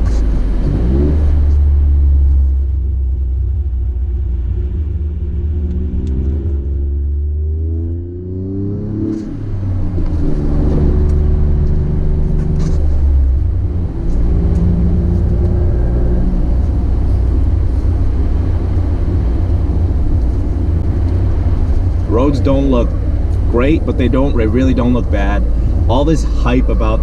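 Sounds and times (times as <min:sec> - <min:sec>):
car engine loud low drone: 0:00.0 - 0:27.0.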